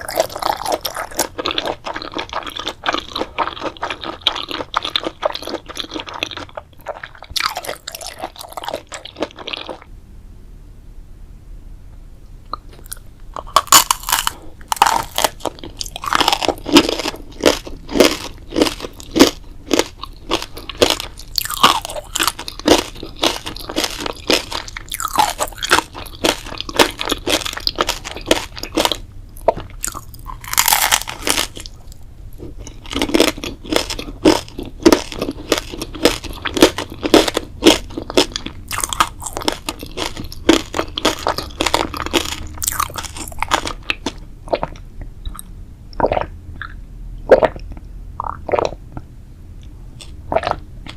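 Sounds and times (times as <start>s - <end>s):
chewing crunchy food: 0.0s - 9.9s, 12.6s - 48.8s, 49.6s - 50.9s.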